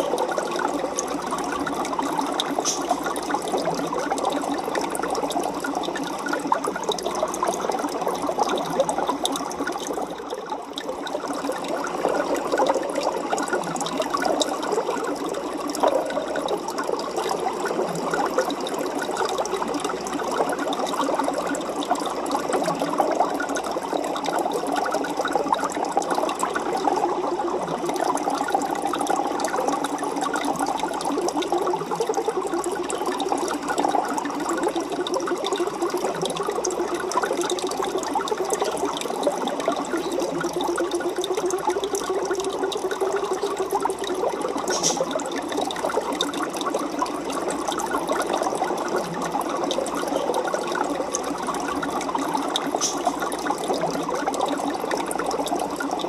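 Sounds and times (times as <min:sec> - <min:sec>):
aquarium water bubbling: 0:00.0 - 0:56.0.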